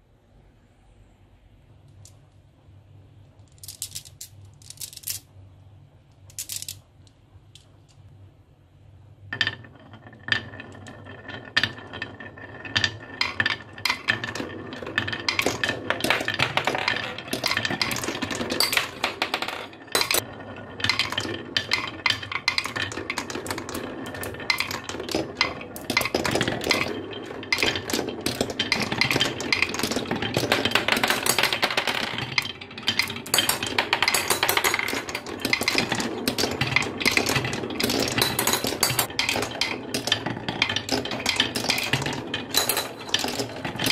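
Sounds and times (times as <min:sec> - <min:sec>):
marbles rolling in wooden groove: 0:03.4 - 0:05.4, 0:06.1 - 0:08.0, 0:09.2 - 0:43.9.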